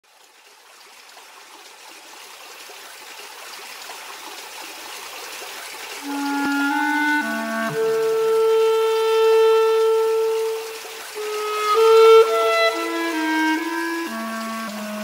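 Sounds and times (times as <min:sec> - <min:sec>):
running water rushing: 0:00.1 - 0:15.0.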